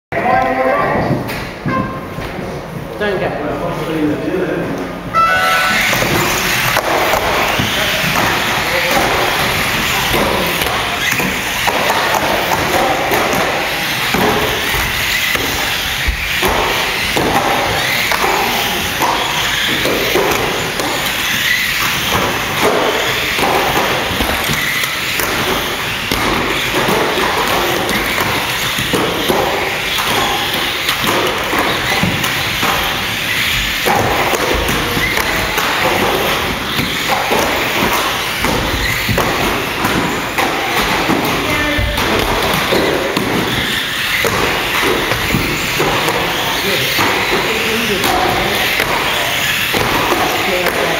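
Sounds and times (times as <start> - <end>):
toy cars thudding and tapping: 6.0 - 50.9.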